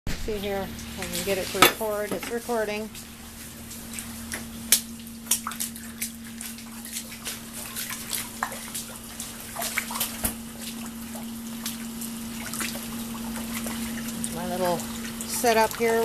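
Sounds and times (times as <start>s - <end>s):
pool pump humming: 0.1s - 16.0s
water dripping and splashing: 0.8s - 16.0s.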